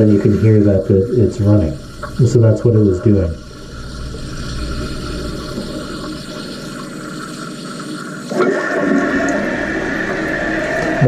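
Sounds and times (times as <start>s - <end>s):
toilet tank filling with water: 0.0s - 11.0s.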